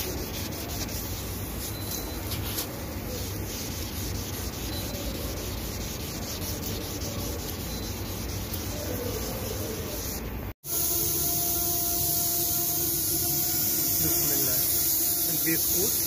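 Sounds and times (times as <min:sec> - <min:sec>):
hand sanding car paint: 0:00.0 - 0:16.0.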